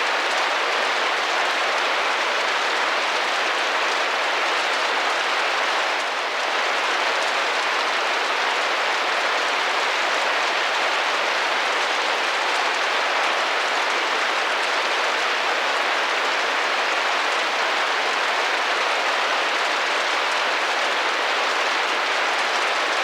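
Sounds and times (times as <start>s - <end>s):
rain drumming on a window: 0.0s - 23.0s.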